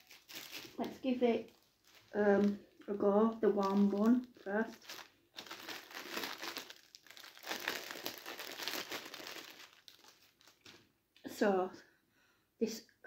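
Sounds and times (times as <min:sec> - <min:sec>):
food wrapping crinkling: 0:00.0 - 0:10.9.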